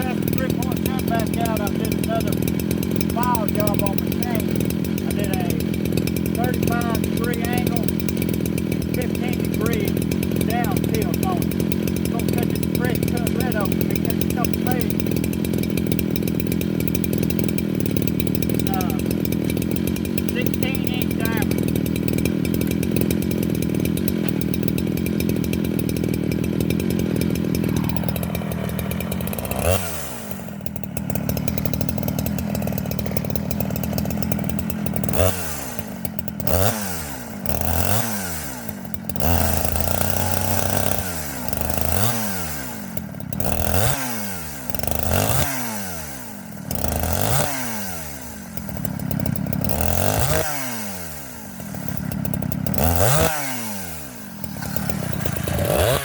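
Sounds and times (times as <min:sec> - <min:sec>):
chainsaw revving: 0:00.0 - 0:56.0.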